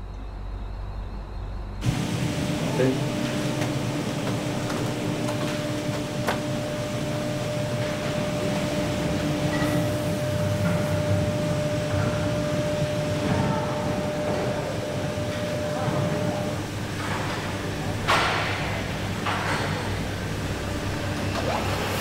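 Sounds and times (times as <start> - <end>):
machinery rumble and hum: 0.0 - 22.0.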